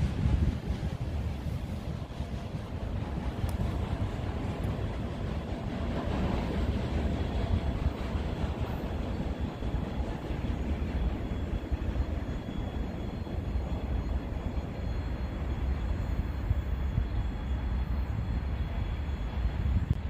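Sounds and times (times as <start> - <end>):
distant train rumble: 0.0 - 20.0
wind buffeting microphone: 0.0 - 20.0.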